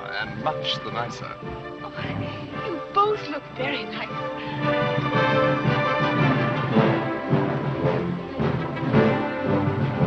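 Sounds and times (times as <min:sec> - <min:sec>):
orchestral film score: 0:00.0 - 0:10.0.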